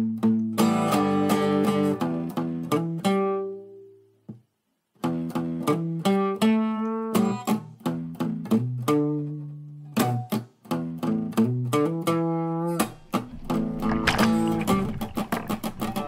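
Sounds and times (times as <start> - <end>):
picked guitar music: 0.0 - 16.0.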